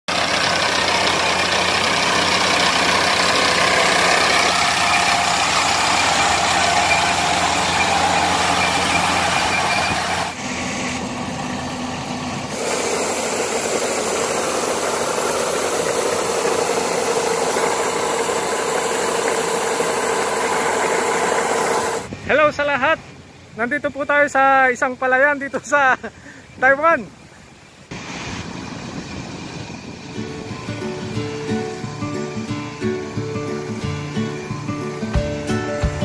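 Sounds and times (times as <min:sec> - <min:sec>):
combine harvester running: 0:00.1 - 0:23.5, 0:27.9 - 0:36.0.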